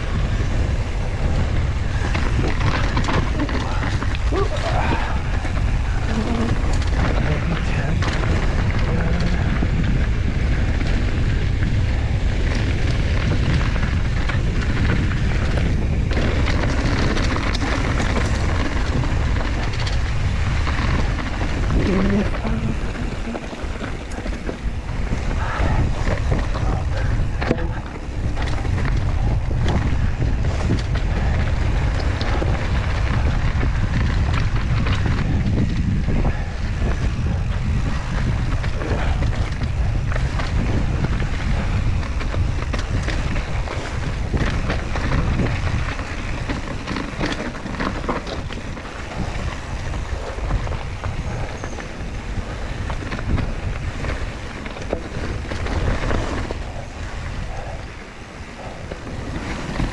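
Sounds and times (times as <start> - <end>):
bike clicks and rattles: 0.0 - 59.9
wind buffeting microphone: 0.0 - 59.9.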